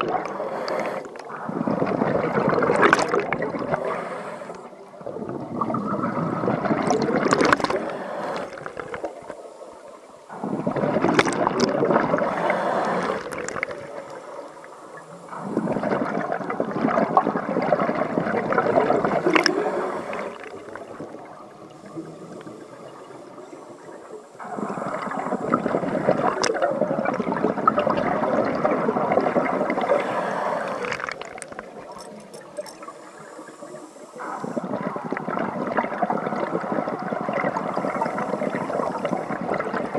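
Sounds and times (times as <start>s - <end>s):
scuba regulator exhaust bubbles: 0.0s - 39.9s.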